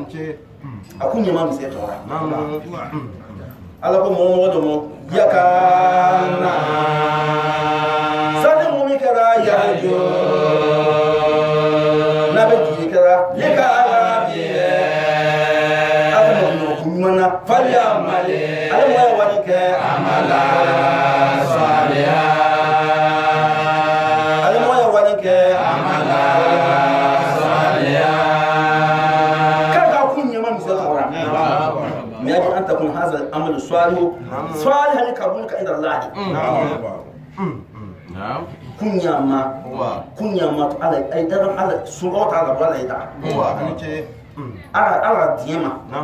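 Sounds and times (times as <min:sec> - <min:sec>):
man chanting a recitation: 0:00.0 - 0:46.0.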